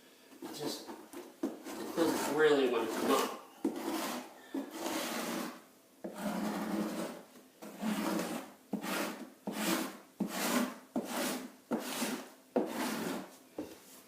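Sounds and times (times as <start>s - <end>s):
hand scraper rasping on wooden floor: 0.4s - 13.3s.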